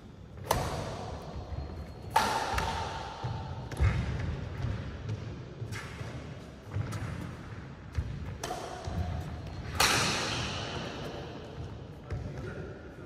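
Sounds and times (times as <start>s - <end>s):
rackets hitting shuttlecock: 0.4s - 12.2s.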